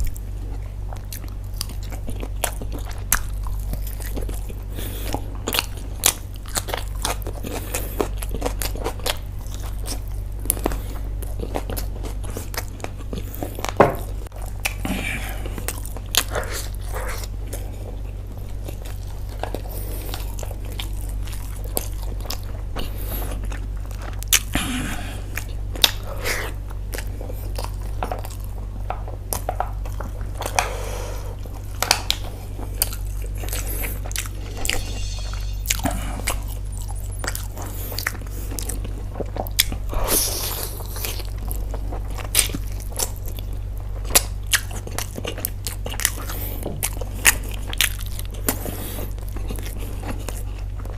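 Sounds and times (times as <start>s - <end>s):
low hum: 0.0s - 44.3s
chewing and biting food: 0.0s - 50.9s.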